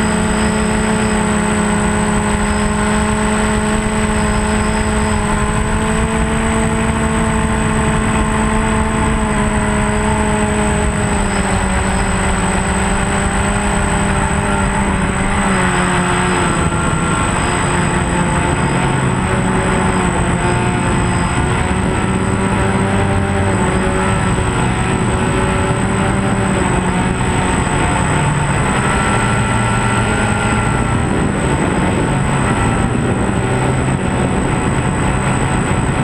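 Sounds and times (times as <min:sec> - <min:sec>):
drone propellers droning: 0:00.0 - 0:36.0
wind rumble: 0:00.0 - 0:36.0.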